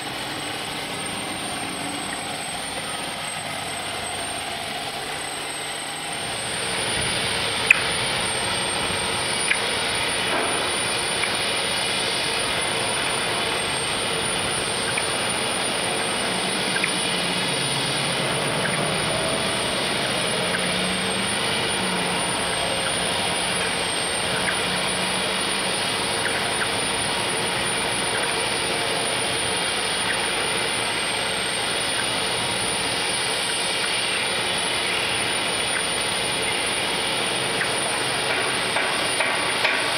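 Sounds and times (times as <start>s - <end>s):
distant machinery drone: 0.0s - 39.9s
low hum: 0.0s - 39.9s
thin high whine: 0.0s - 39.9s.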